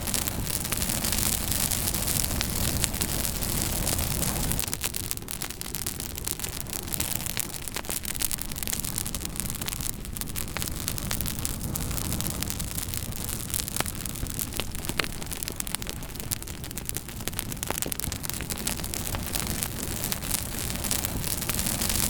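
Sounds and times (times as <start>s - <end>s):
campfire crackling and popping: 0.0s - 22.0s
hiss and rumble of flames: 0.0s - 22.0s.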